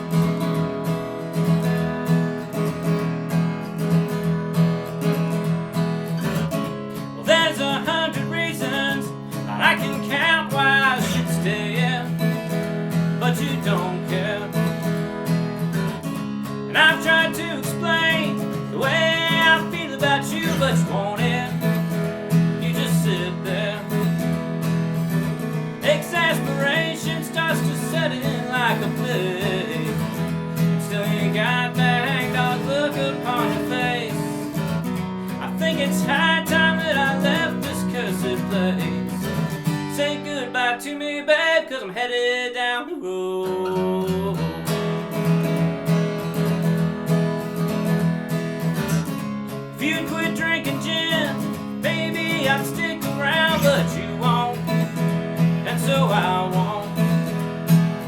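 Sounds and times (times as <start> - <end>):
acoustic guitar strummed chords: 0.0 - 58.0
guitar melody line: 0.0 - 58.0.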